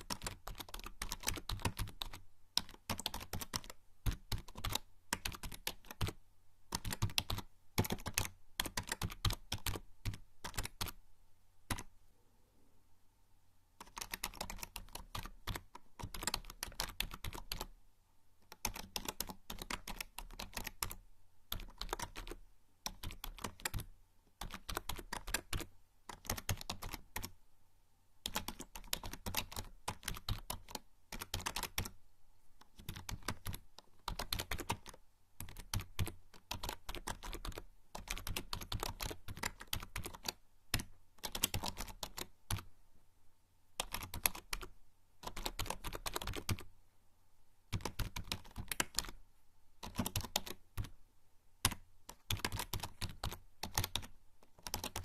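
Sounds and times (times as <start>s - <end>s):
keyboard typing: 0.0s - 11.0s, 11.6s - 11.9s, 13.8s - 17.7s, 18.4s - 27.3s, 28.2s - 32.0s, 32.6s - 42.7s, 43.8s - 46.7s, 47.7s - 49.2s, 49.8s - 51.0s, 51.6s - 55.0s.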